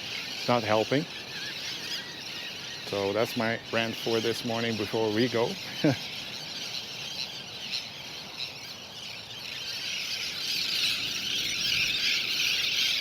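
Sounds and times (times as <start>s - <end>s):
seabirds calling: 0.0s - 13.0s.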